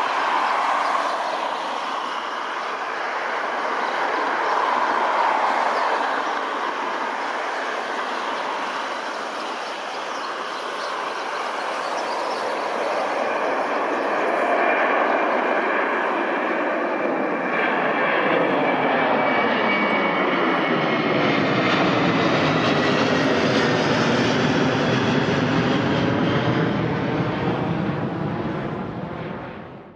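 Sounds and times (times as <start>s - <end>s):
jet engines at take-off thrust: 0.0s - 29.9s.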